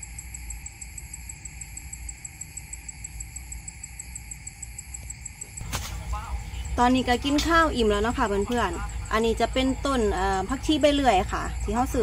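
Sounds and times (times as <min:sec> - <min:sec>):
crickets chirping: 0:00.0 - 0:12.0
steady high buzz: 0:00.0 - 0:12.0.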